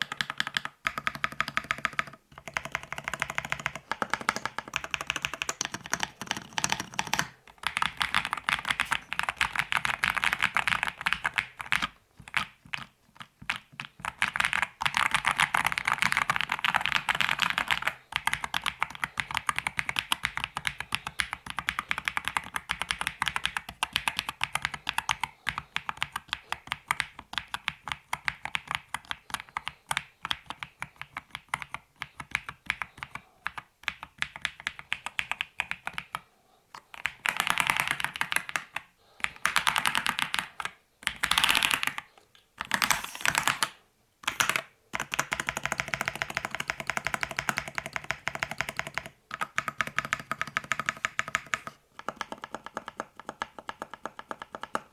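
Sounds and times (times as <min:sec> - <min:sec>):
mechanical keyboard typing: 0:00.0 - 0:36.2, 0:36.9 - 0:54.9.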